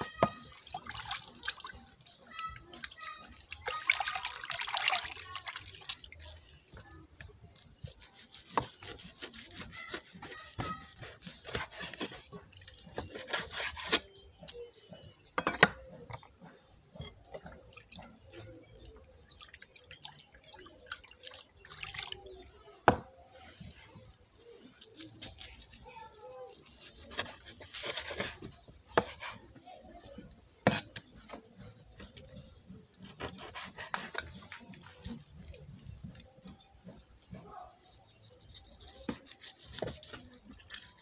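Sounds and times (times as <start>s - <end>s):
water dripping and splashing: 0.0s - 41.0s.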